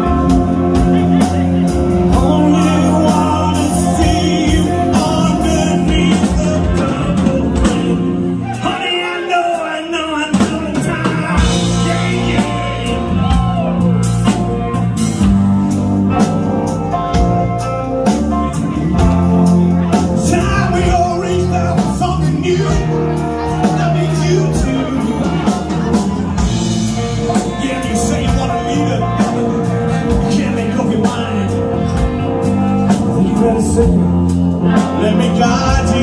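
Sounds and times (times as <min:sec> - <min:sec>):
singer: 0:00.0 - 0:14.4, 0:18.4 - 0:36.0
bass guitar: 0:00.0 - 0:36.0
drum kit: 0:00.0 - 0:36.0
electric guitars: 0:00.0 - 0:36.0.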